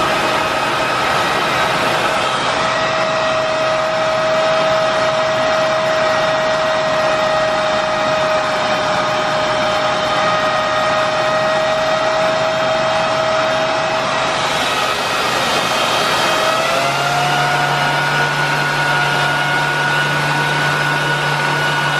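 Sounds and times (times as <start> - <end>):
vacuum cleaner motor whining: 0.0 - 21.9.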